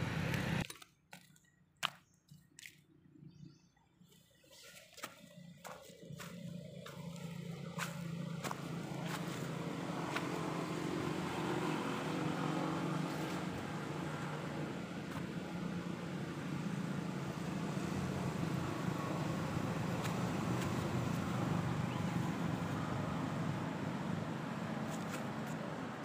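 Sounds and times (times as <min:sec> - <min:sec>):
engine humming: 0:00.0 - 0:00.7, 0:04.2 - 0:26.0.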